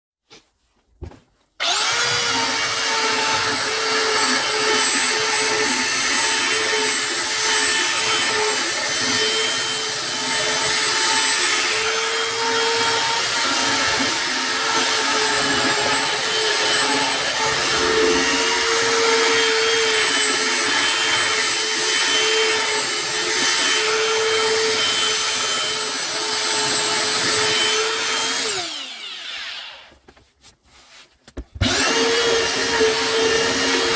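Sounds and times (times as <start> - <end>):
power sander whining on wood: 1.6 - 29.9, 31.6 - 33.9.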